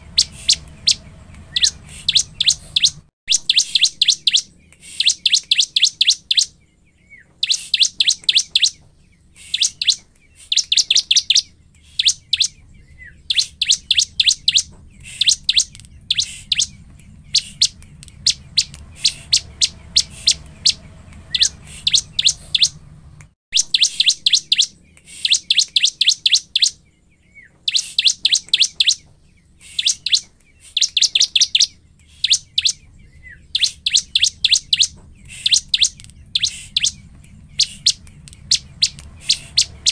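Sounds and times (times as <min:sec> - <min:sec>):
bird chipping song: 0:00.0 - 0:39.9.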